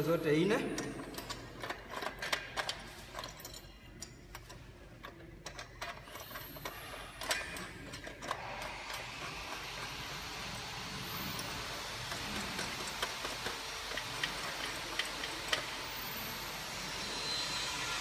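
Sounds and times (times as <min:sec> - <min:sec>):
nuts threaded onto bolts: 0:00.6 - 0:17.8.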